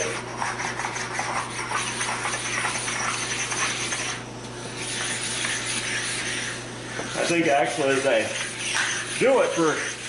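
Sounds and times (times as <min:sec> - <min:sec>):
sharpening stone scraping metal: 0:00.0 - 0:04.2, 0:04.8 - 0:10.0.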